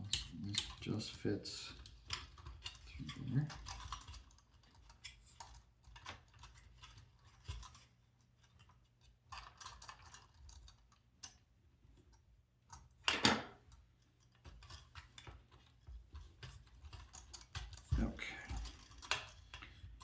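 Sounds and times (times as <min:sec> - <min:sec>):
plastic parts clicking and rustling: 0:00.0 - 0:11.4, 0:13.0 - 0:20.0.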